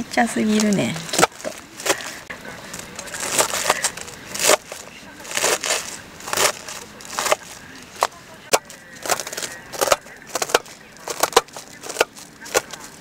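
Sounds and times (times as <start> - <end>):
knife chopping cabbage: 0.6 - 2.2, 3.1 - 13.0.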